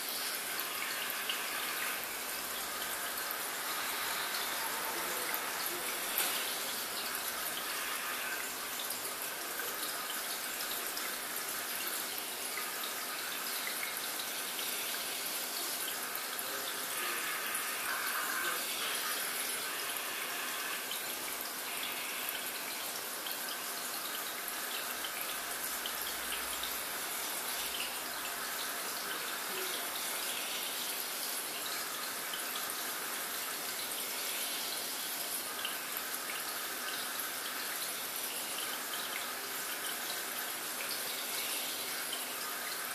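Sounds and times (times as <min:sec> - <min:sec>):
aquarium water trickling and splashing: 0:00.0 - 0:42.9.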